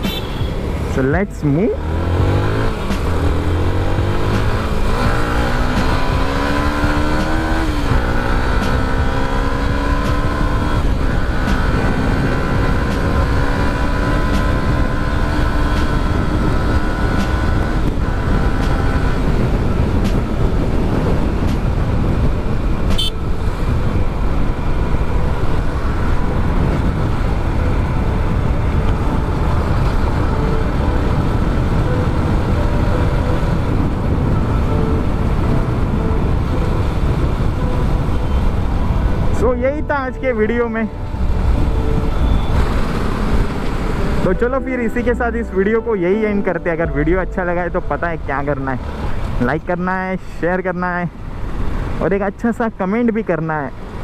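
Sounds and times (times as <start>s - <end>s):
wind and road noise: 0.0s - 54.0s
motorcycle engine revving: 1.6s - 45.4s.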